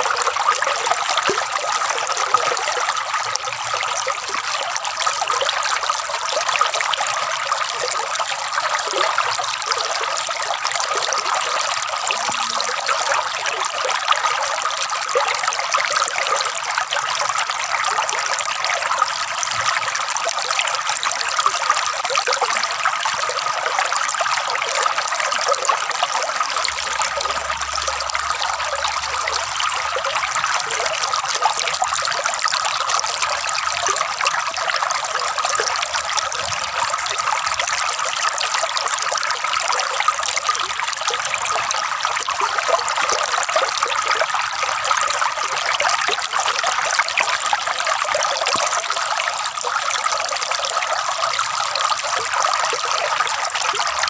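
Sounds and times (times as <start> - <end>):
water gurgling and trickling: 0.0 - 54.0.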